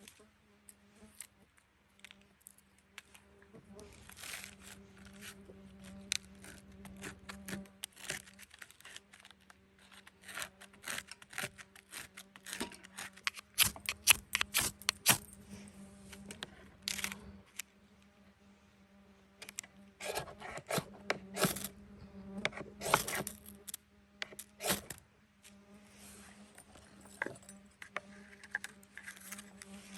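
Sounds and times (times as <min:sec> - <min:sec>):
camp gear being handled: 0:01.1 - 0:17.6, 0:19.4 - 0:21.8, 0:22.4 - 0:29.9.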